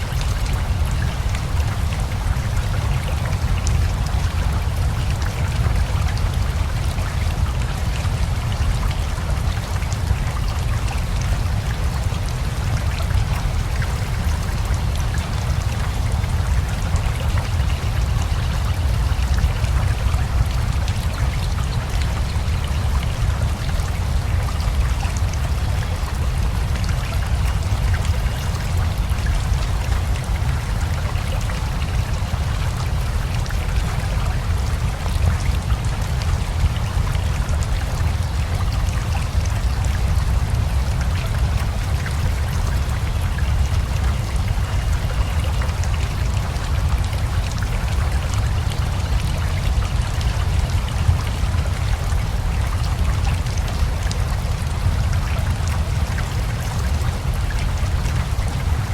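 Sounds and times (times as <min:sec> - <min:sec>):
flowing river: 0:00.0 - 0:58.9
steady rain: 0:00.0 - 0:58.9.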